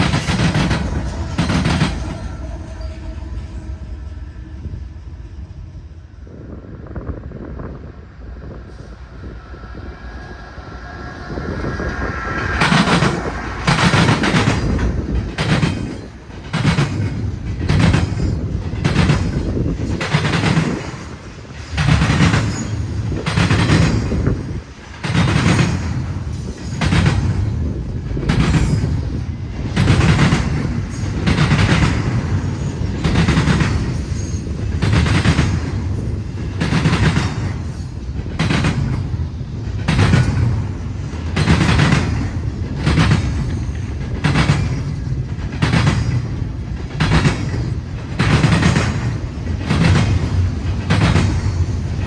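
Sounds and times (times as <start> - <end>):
freight train cars rumbling: 0.0 - 52.0.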